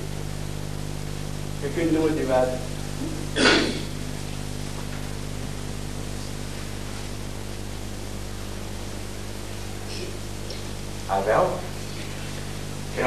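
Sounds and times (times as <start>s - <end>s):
recording hiss and hum: 0.0s - 13.0s.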